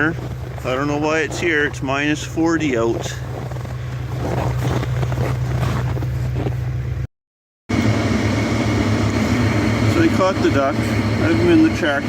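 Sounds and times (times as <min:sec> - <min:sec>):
tractor engine running: 0:00.0 - 0:07.1, 0:07.7 - 0:12.0.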